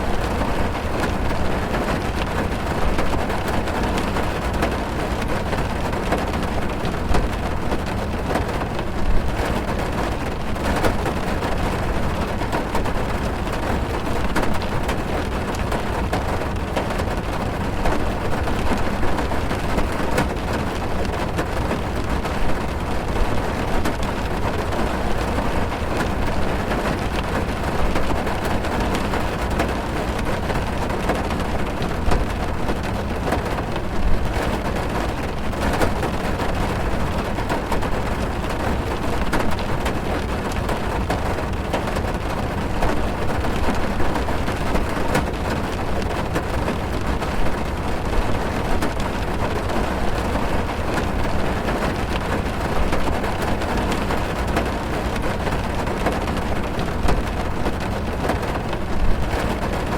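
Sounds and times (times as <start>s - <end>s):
heavy rain drumming on car roof: 0.0s - 59.9s.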